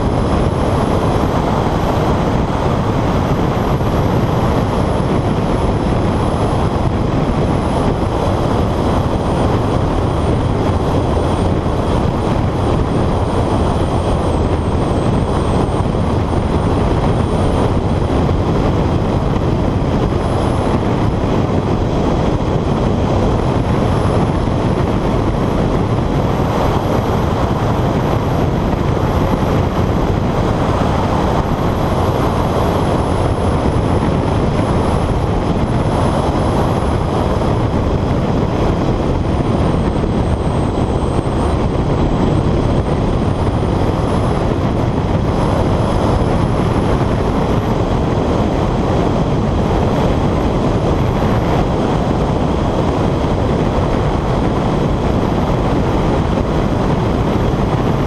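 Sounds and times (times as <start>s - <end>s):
car engine and tyres: 0.0s - 58.0s
wind noise on microphone: 0.0s - 58.0s.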